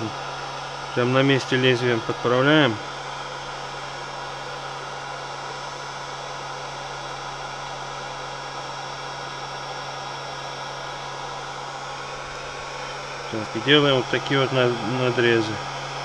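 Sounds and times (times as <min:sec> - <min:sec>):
heat gun fan hiss and hum: 0:00.0 - 0:16.0.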